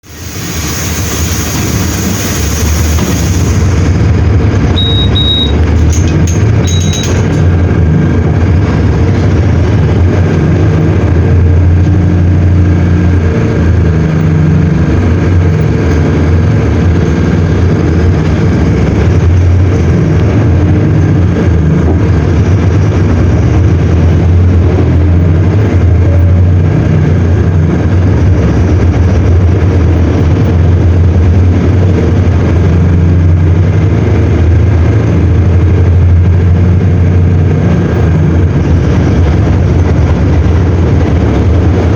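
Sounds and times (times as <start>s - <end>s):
diesel bus engine droning: 0.0s - 41.9s.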